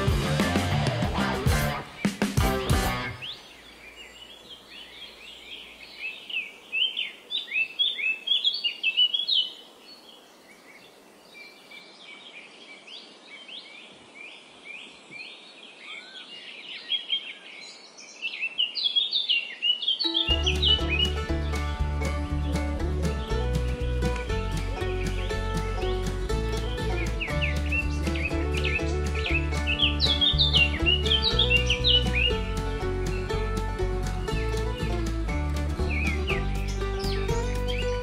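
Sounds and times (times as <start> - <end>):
small birds chirping: 1.6 - 38.0.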